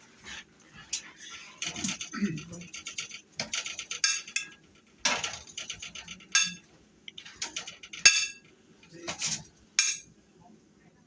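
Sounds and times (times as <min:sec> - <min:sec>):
metal utensils clinking on dishes: 0:00.9 - 0:10.1.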